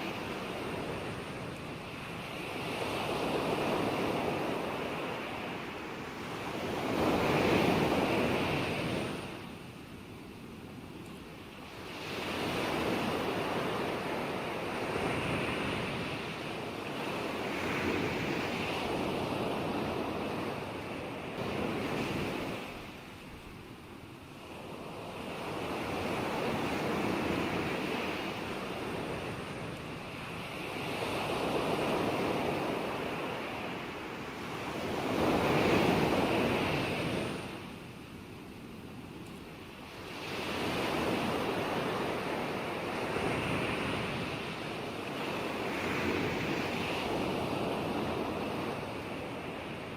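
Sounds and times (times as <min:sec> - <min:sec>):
waves breaking and washing in: 0:00.0 - 0:49.9.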